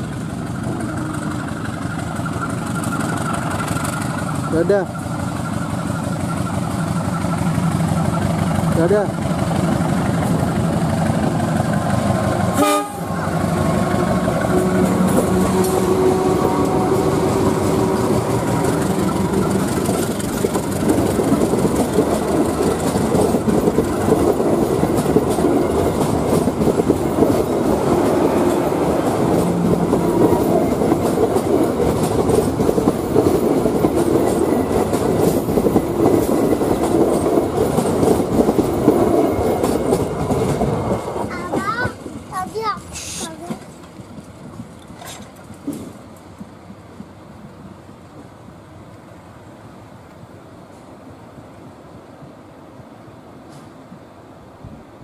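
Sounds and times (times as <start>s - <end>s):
train wheels clattering over rail joints: 0.0s - 12.6s, 13.3s - 47.3s
locomotive engine passing: 0.0s - 52.0s.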